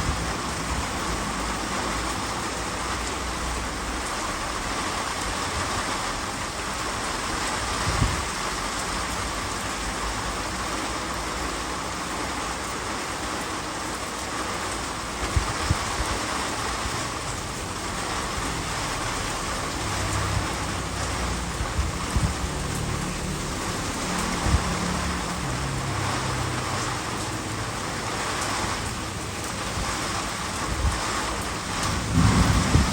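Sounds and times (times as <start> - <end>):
heavy rain pouring: 0.0 - 32.9
wind: 0.0 - 32.9.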